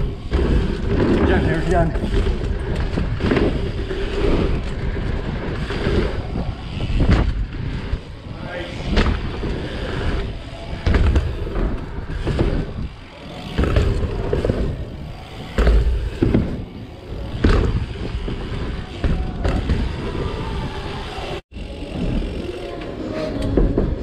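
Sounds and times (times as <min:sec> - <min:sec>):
bike landing thuds: 0:00.0 - 0:08.0, 0:08.9 - 0:20.2
bike tyres rumbling on plywood: 0:00.0 - 0:24.0.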